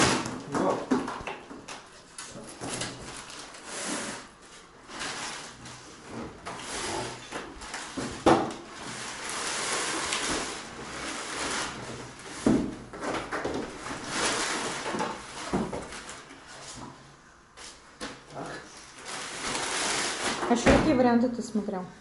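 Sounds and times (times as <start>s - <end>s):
plastic wrapping rustling: 0.0s - 17.0s, 17.7s - 21.0s.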